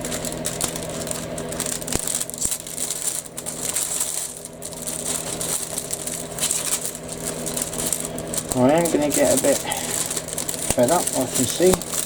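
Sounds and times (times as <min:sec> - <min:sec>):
plastic bags rustling and crinkling: 0:00.0 - 0:12.0
steady low hum: 0:00.0 - 0:12.0.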